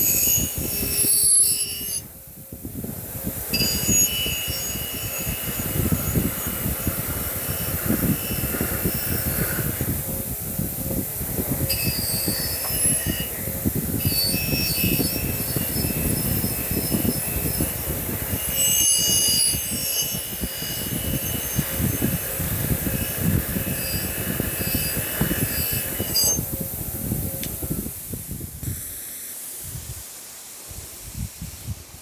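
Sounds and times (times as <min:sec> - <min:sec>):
wire wheel grinding metal: 0:00.0 - 0:27.9
high grinder whine: 0:00.0 - 0:29.6.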